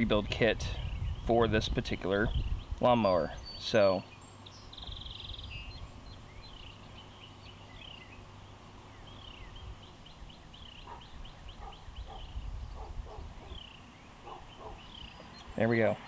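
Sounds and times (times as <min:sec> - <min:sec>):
small birds chirping: 0:00.8 - 0:16.0.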